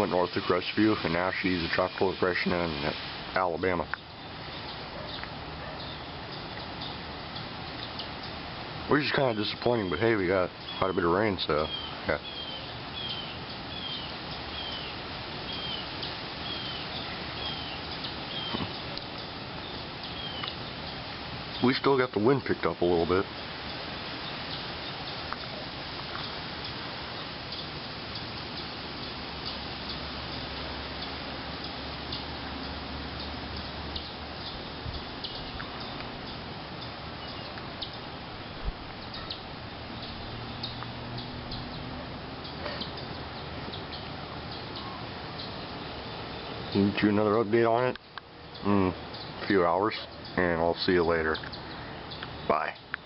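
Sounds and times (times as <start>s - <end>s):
storm rain hissing: 0.0s - 42.8s
wind: 0.0s - 53.0s.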